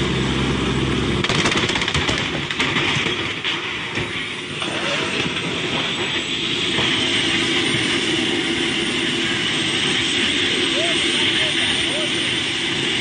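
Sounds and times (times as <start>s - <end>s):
vehicle running noise: 0.0s - 13.0s.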